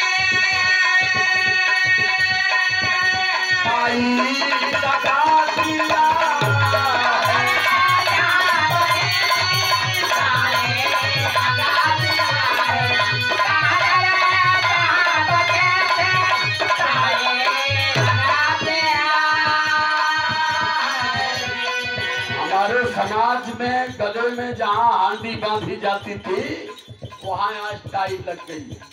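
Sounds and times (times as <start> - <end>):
harmonium chords: 0.0 - 27.0.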